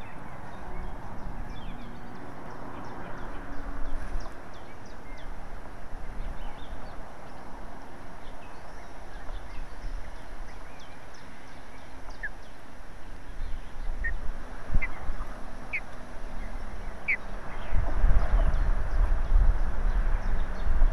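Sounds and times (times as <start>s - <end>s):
low wind rumble: 0.0s - 20.9s
wind hiss on microphone: 3.6s - 20.9s.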